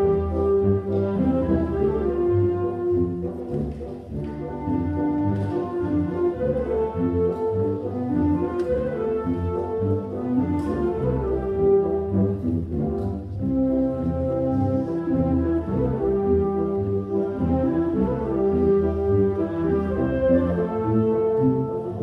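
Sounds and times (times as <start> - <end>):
wind band playing: 0.0 - 22.0.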